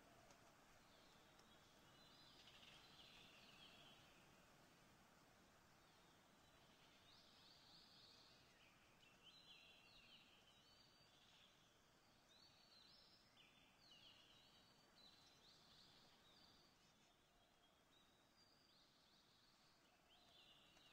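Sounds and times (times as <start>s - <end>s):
low hiss: 0.0s - 20.9s
small birds chirping and trilling: 0.7s - 4.5s, 5.6s - 20.9s.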